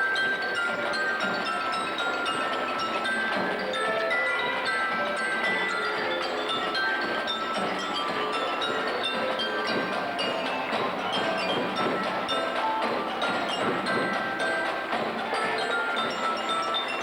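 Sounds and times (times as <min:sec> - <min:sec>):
bell-like mallet notes: 0:00.0 - 0:17.0
light steady percussion: 0:00.0 - 0:17.0.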